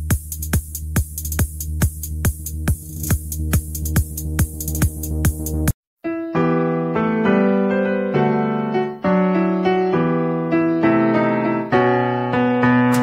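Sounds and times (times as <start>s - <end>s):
keyboard chords: 2.2s - 13.0s.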